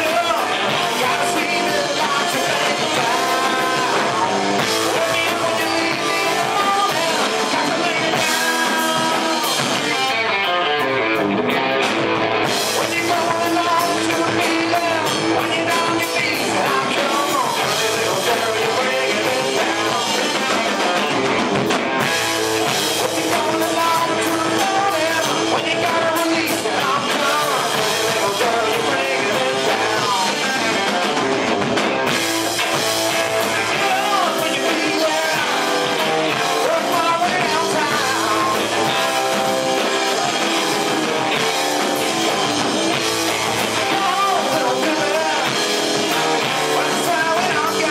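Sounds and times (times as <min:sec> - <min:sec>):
person singing: 0:00.0 - 0:11.2, 0:12.4 - 0:21.4, 0:22.6 - 0:47.9
electric guitar: 0:00.0 - 0:47.9
live rock band playing: 0:00.0 - 0:47.9.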